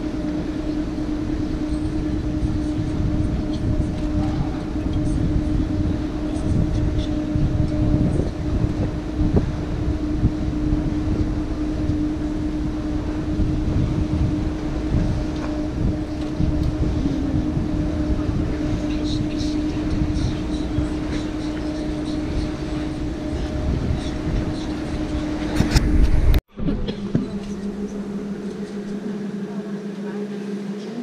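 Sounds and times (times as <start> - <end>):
churning low rumble: 0.0 - 29.6
boat motor humming: 0.0 - 31.0.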